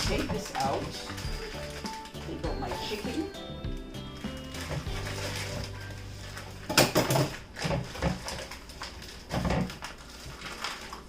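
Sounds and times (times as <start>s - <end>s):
plastic package crinkling: 0.0s - 11.0s.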